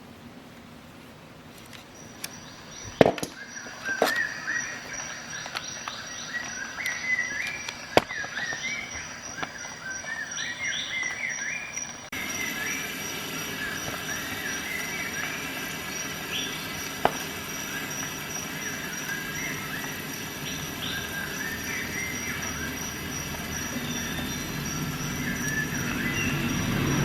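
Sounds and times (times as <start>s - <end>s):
bird chirping: 1.8s - 27.0s.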